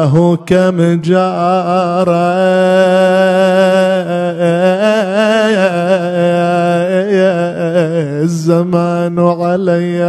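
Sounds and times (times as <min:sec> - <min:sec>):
man chanting a lament: 0:00.0 - 0:10.0.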